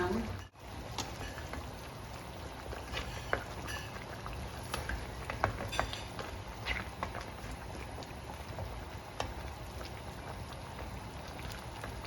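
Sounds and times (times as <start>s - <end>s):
stew bubbling in a pan: 0.0s - 12.0s.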